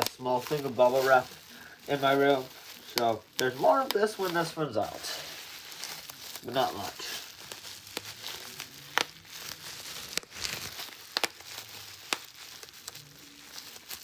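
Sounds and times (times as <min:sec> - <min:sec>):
bubble wrap popping: 0:00.0 - 0:14.0
plastic sheet crinkling: 0:00.0 - 0:14.0.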